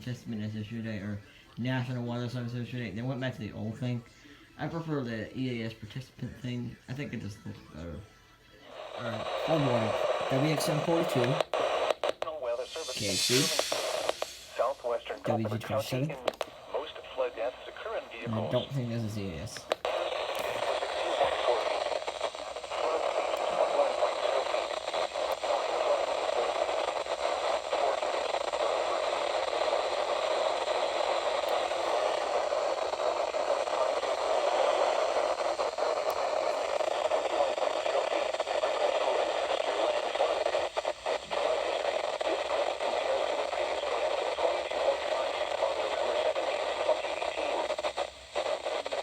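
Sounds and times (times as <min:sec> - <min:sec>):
radio static hiss: 0:00.0 - 0:49.0.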